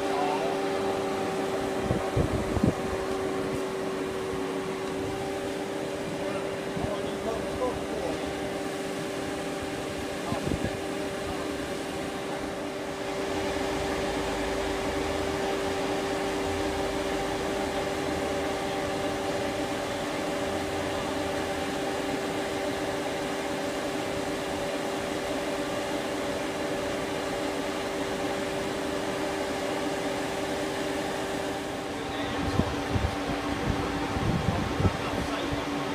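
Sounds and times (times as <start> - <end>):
band saw humming: 0.0 - 35.9.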